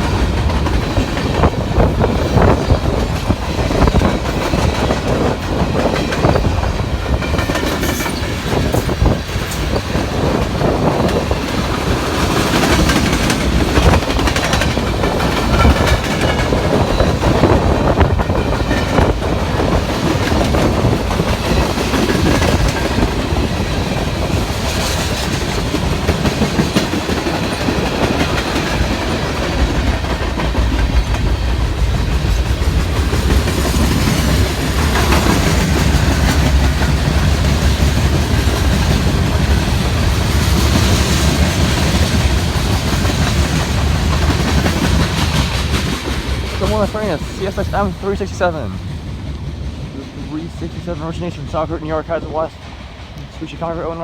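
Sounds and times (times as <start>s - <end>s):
train wheels clacking over rail joints: 0.0s - 54.0s.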